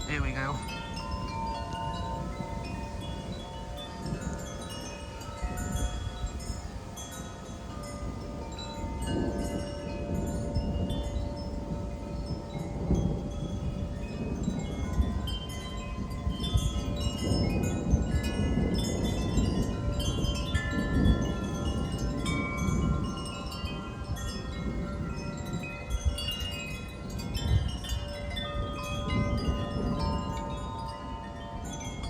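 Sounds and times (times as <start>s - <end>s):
low wind rumble: 0.0s - 32.0s
wind chimes ringing: 0.0s - 32.0s.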